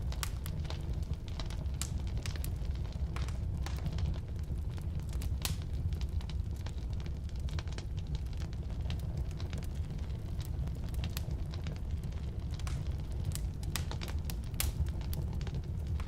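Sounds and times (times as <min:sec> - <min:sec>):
low rumble of flame: 0:00.0 - 0:16.0
wood crackling and popping: 0:00.0 - 0:16.0.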